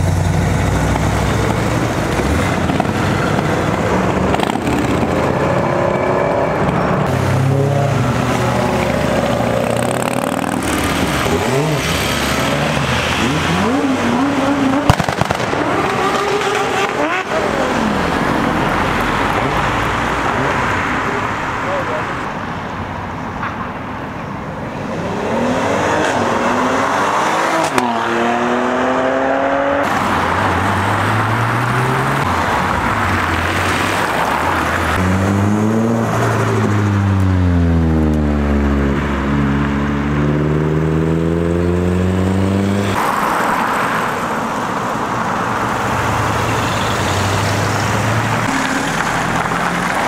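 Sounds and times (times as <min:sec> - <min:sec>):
car engines accelerating: 0:00.0 - 0:22.9, 0:24.6 - 0:50.0.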